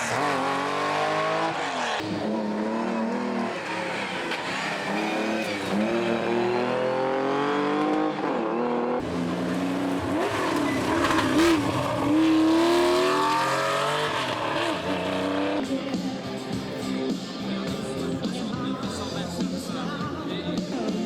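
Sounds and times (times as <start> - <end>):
rally car engines accelerating: 0.0 - 21.0.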